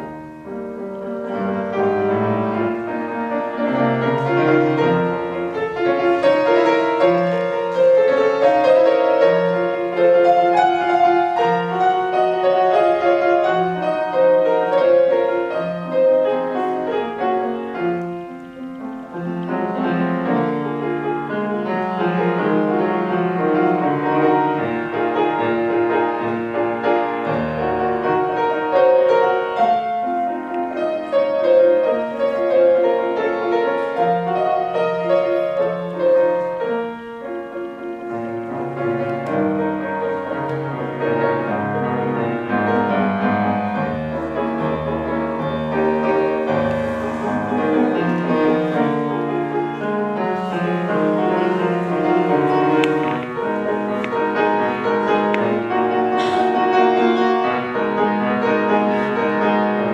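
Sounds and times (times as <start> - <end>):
solo piano piece: 0.0 - 59.9.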